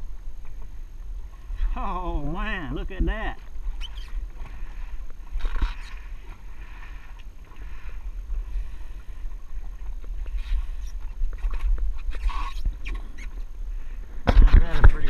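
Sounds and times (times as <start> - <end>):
water sloshing against hull: 0.0 - 2.7, 3.3 - 15.0
wind on microphone: 0.0 - 15.0.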